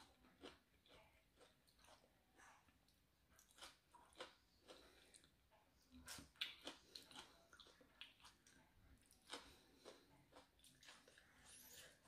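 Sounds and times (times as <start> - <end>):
person chewing soft food: 0.0 - 12.0.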